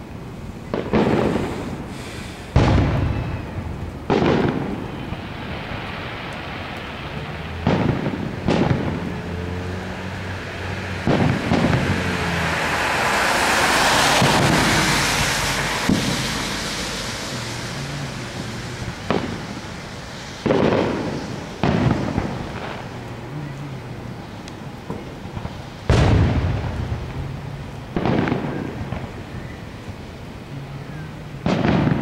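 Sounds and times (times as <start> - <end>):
long firework hiss: 0.4 - 32.0
distant fireworks booming: 0.6 - 32.0.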